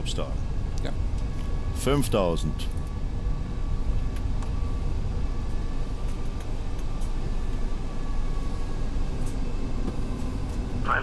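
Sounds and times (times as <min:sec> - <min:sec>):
aircraft cockpit airflow rumble: 0:00.0 - 0:11.0
faint high whine: 0:00.0 - 0:11.0.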